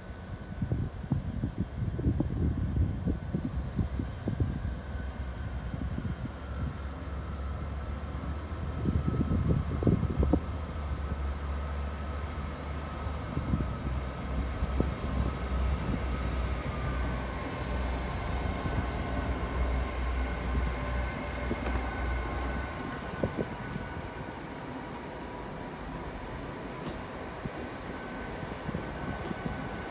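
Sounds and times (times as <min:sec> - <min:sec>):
train diesel engine rumble: 0:00.0 - 0:29.9
wind buffeting microphone: 0:00.2 - 0:06.8, 0:08.6 - 0:11.3, 0:13.0 - 0:17.3, 0:18.5 - 0:25.3, 0:25.9 - 0:29.9.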